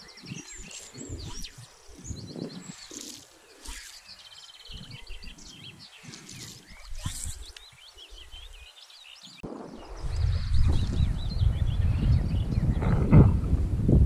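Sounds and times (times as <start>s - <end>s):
wind buffeting microphone: 0.0s - 8.7s, 9.3s - 14.0s
bird trill: 0.0s - 12.8s
songbirds chirping and singing: 0.0s - 13.5s.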